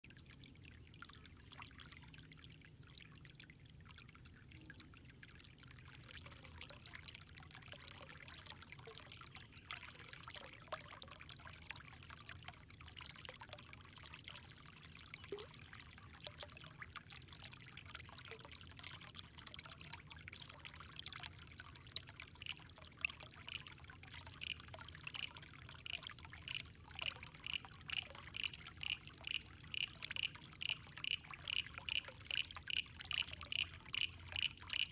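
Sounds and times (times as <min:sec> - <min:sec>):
faint water trickling: 0:00.0 - 0:34.9.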